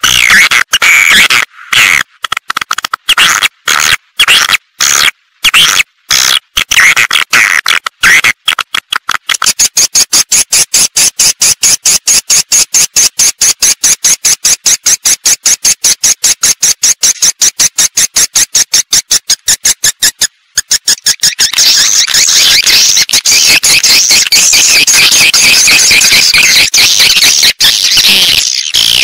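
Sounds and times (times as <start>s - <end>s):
rapid high-pitched bird chirps: 0.0s - 2.0s, 3.1s - 8.4s, 9.3s - 29.0s.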